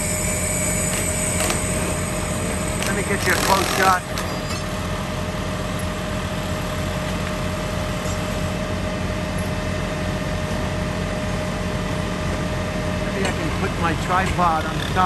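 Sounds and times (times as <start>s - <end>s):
thin steady whine: 0.0s - 15.0s
truck engines droning: 0.0s - 15.0s.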